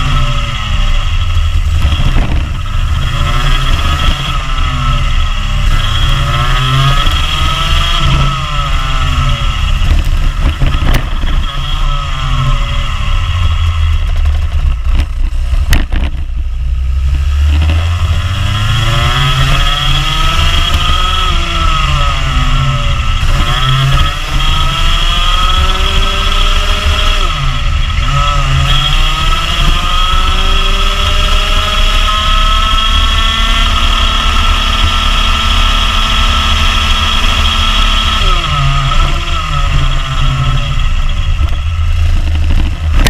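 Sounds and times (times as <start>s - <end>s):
kart engine revving: 0.0s - 43.0s.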